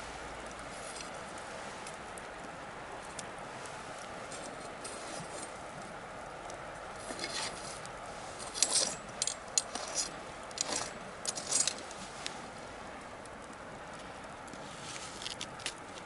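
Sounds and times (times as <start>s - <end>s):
bonfire crackling and popping: 0.0s - 16.0s
low hiss of fire: 0.0s - 16.0s.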